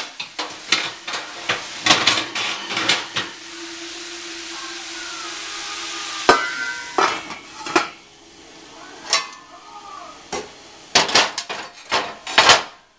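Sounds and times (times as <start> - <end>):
meat sizzling in a pan: 0.0 - 12.7.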